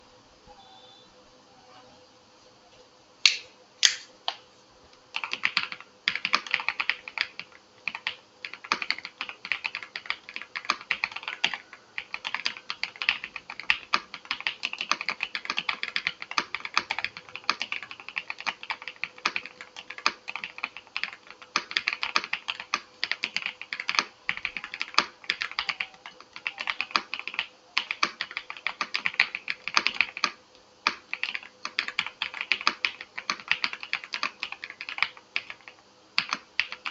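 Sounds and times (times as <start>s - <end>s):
faint steady hum: 0.0s - 36.9s
mechanical keyboard typing: 5.1s - 36.9s.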